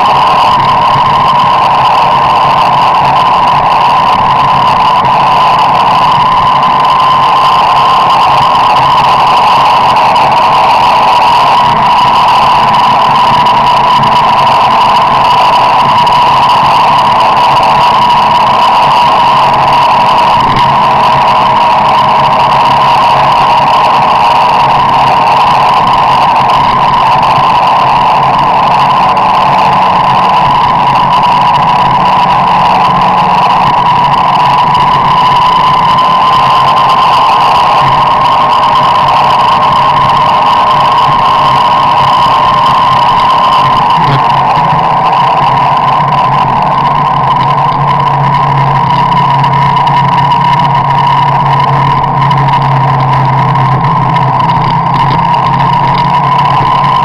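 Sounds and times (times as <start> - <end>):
high road whine: 0.0 - 57.0.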